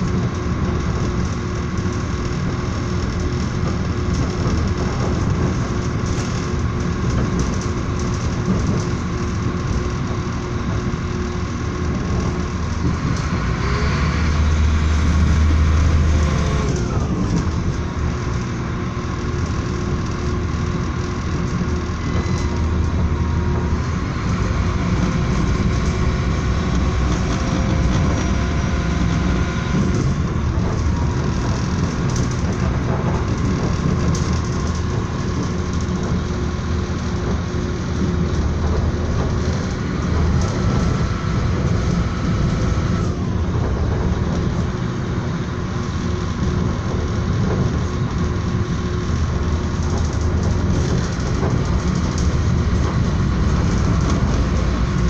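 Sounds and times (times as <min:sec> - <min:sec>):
moving train rumble: 0:00.0 - 0:55.0.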